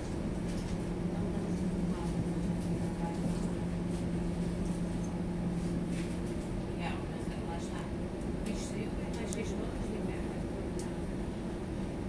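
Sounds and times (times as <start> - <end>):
streetcar motor idling hum: 0.0 - 12.0.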